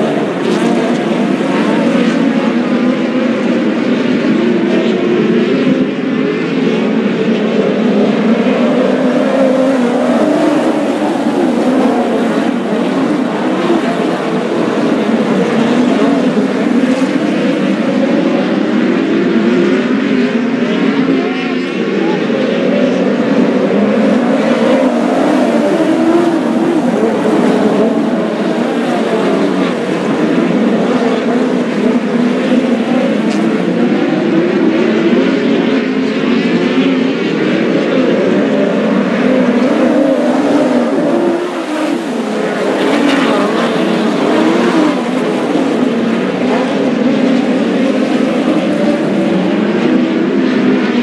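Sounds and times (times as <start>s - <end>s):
race car engines: 0.0s - 51.0s.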